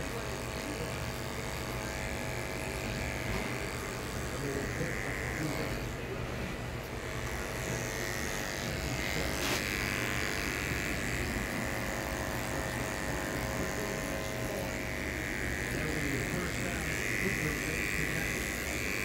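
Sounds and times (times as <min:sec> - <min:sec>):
hair clipper cutting hair: 0:00.0 - 0:19.0.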